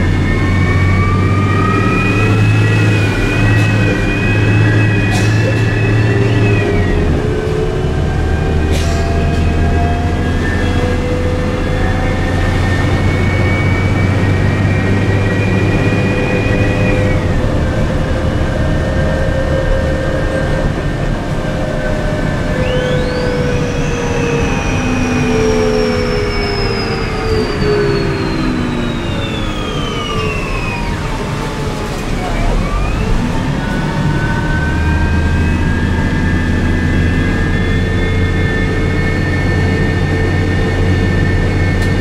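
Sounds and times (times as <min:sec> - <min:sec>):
bus drivetrain whine: 0:00.0 - 0:42.0
high whine: 0:00.0 - 0:42.0.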